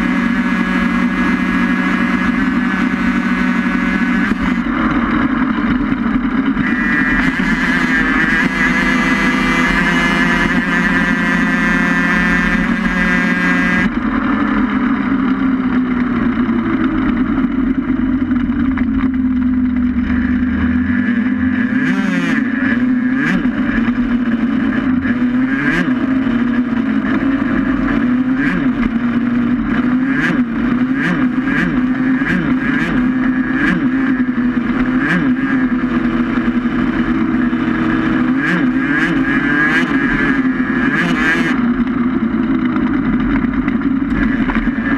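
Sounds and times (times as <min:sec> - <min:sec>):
racing vehicle engine drone: 0:00.0 - 0:44.9.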